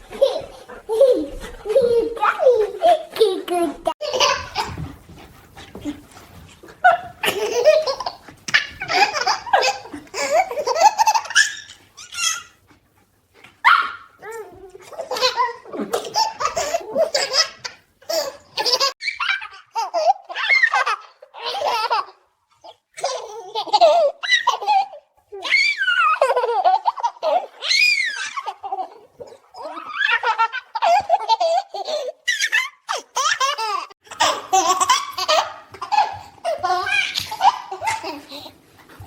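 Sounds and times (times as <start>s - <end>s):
baby laughing: 0.1s - 4.9s, 6.9s - 12.5s, 14.3s - 22.2s, 23.0s - 38.6s.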